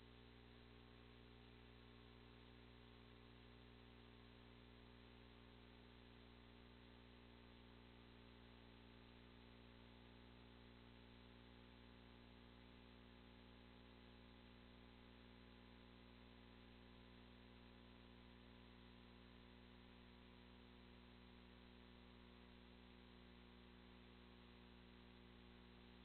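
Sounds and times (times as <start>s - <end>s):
faint electrical hum with hiss: 0.0s - 26.0s.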